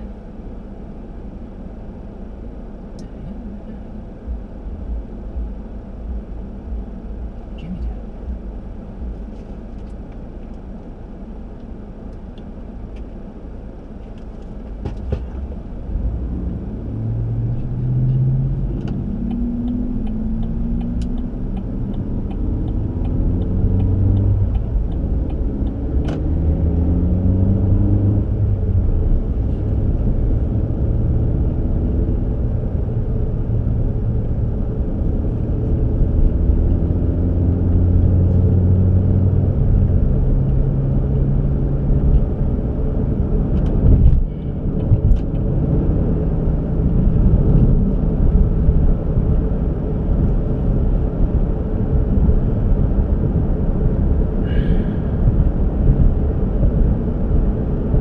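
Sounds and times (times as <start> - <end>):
road rumble: 0.0 - 58.0
vehicle engine: 0.0 - 58.0.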